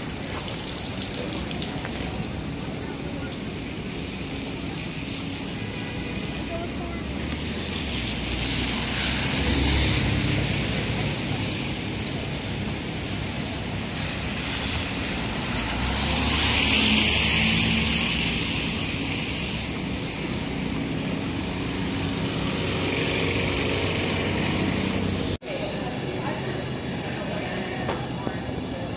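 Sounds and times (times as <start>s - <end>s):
tyres hissing on wet road: 0.0s - 28.9s
vehicles passing: 0.0s - 28.9s.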